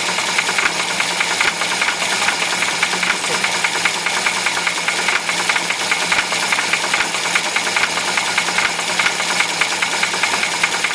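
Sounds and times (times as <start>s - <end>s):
engine running with rapid knock: 0.0s - 10.9s.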